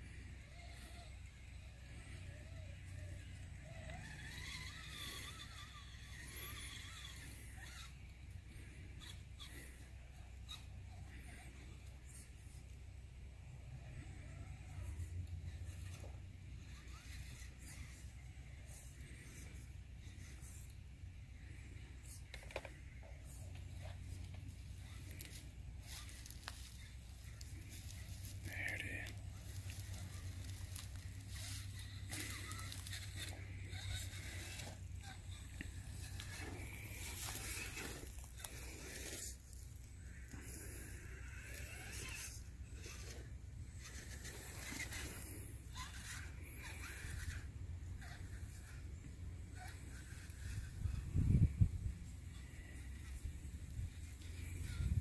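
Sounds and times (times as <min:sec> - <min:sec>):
electric motor and gears whirring: 0:00.0 - 0:55.0
low steady rumble: 0:00.0 - 0:55.0
faint voices: 0:00.2 - 0:55.0.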